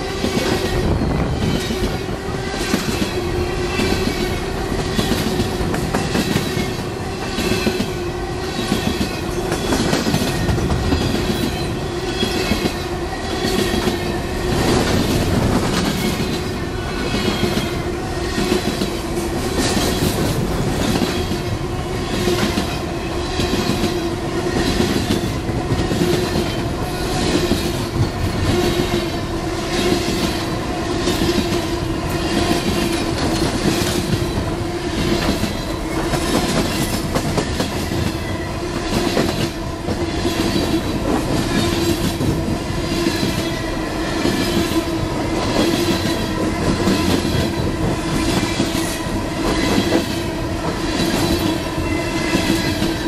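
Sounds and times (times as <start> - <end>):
train rumble: 0.0 - 53.0
train wheels clacking on rails: 0.0 - 53.0.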